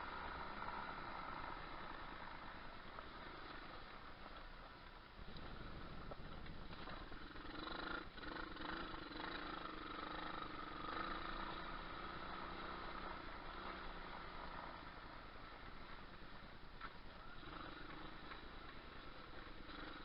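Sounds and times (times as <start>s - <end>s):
pit bike engine running: 0.0s - 20.0s.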